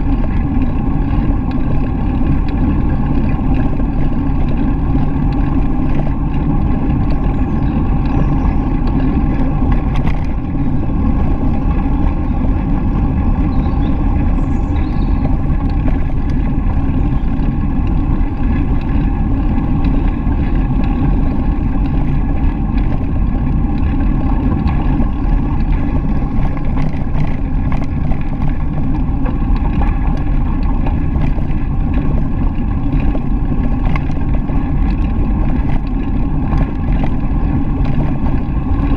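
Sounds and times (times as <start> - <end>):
wind and ride vibration rumble: 0.0 - 38.9.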